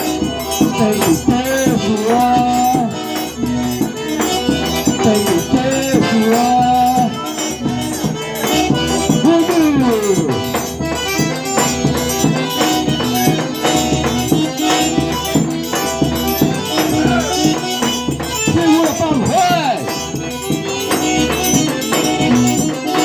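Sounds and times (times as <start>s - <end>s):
button accordion melody: 0.0s - 23.0s
rattling shaker percussion: 0.0s - 23.0s.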